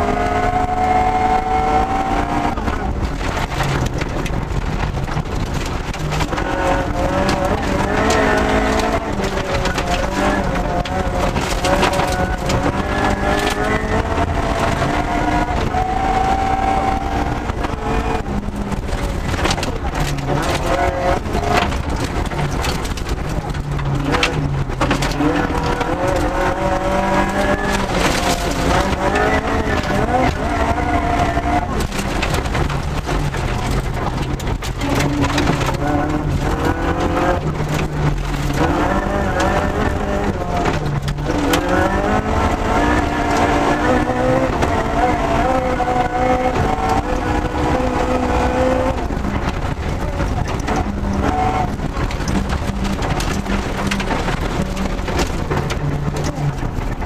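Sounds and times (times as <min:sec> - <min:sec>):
rally car engine revving: 0:00.0 - 0:57.0
tyres on gravel: 0:00.0 - 0:57.0.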